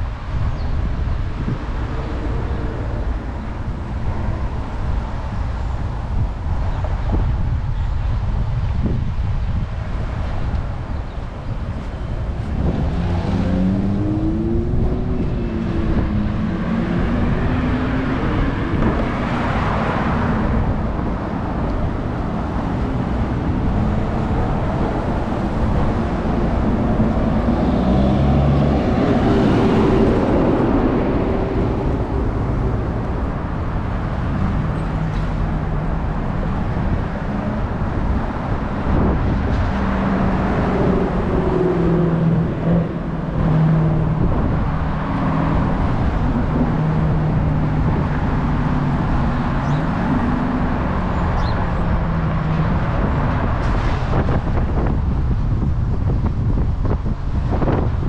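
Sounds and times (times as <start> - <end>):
car engines and tyres rumbling: 0.0 - 58.0.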